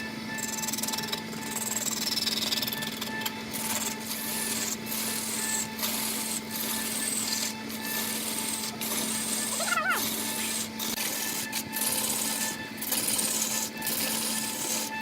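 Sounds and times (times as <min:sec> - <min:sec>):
tool scraping spinning wood: 0:00.0 - 0:15.0
wood lathe humming: 0:00.0 - 0:15.0.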